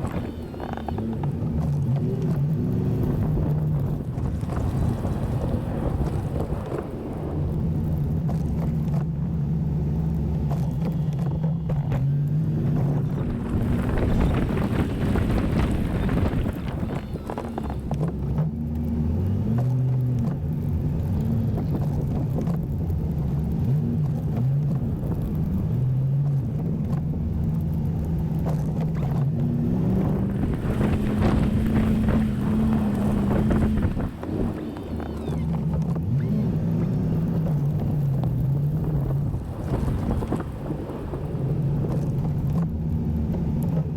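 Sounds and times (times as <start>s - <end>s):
pickup truck engine under load: 0.0s - 19.6s, 27.2s - 43.9s.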